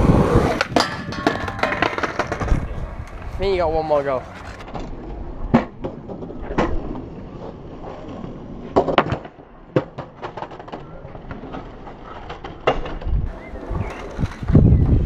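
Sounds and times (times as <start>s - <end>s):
skateboard wheels rolling on concrete: 0.0s - 15.0s
skateboard clacking on ground: 0.1s - 15.0s.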